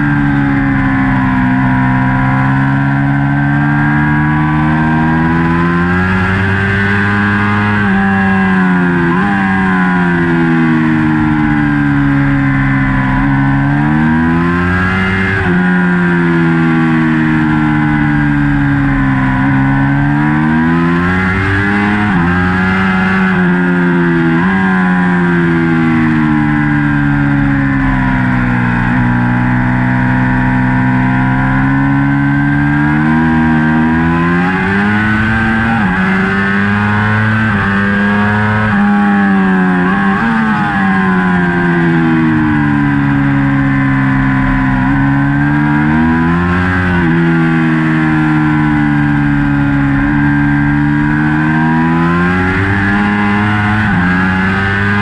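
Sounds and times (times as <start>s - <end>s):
motorcycle engine at racing speed: 0.0s - 55.0s.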